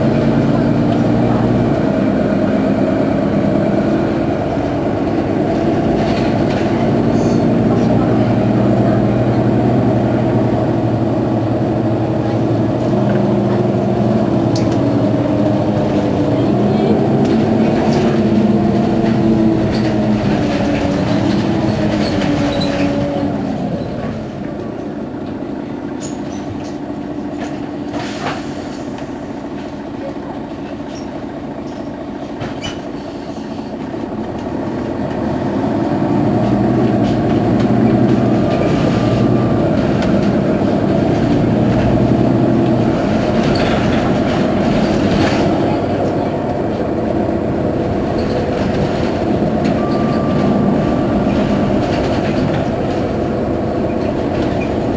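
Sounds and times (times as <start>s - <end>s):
bus engine idling: 0.0s - 54.9s.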